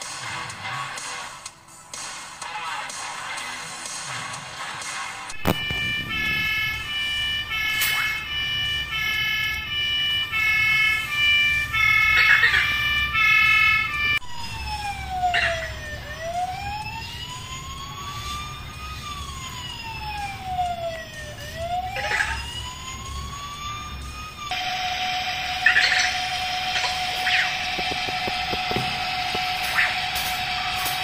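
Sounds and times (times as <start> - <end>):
toy electronic siren: 5.3 - 31.0.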